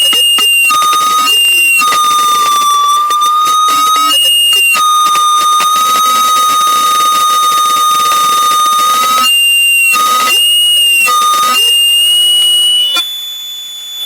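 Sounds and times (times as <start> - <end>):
high-pitched audio feedback howl: 0.0 - 14.0.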